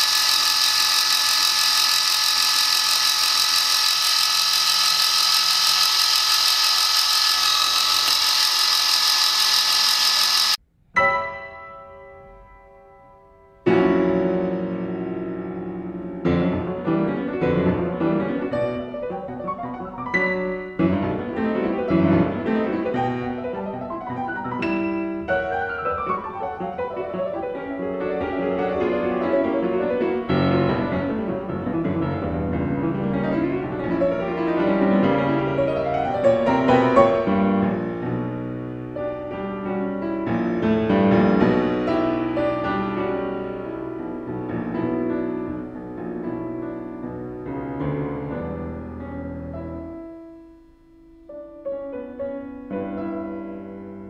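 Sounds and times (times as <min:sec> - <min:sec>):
piano music with quick runs: 0:00.0 - 0:54.0.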